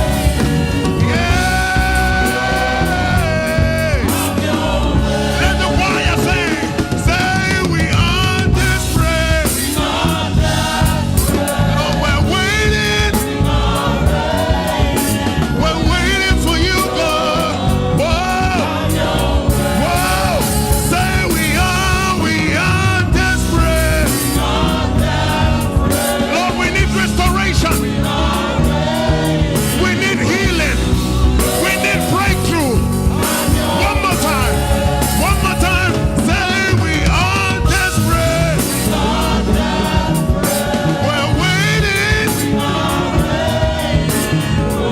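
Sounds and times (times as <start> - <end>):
gospel choir singing: 0.0 - 44.9
live band playing: 0.0 - 44.9.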